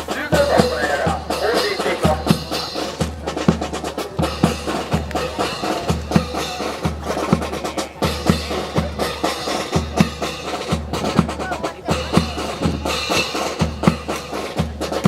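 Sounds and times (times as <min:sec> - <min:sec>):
bass drum beats: 0:00.0 - 0:15.0.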